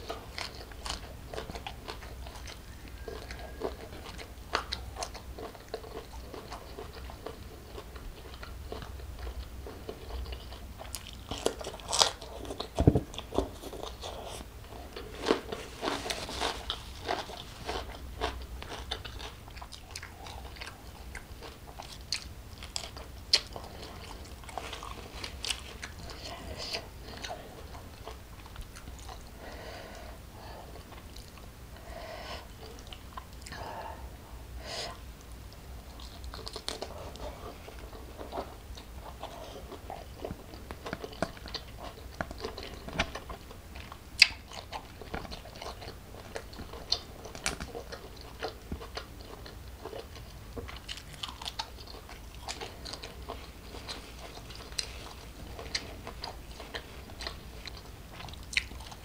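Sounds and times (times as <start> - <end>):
wet chewing and crunching: 0.0 - 34.0, 35.2 - 59.0.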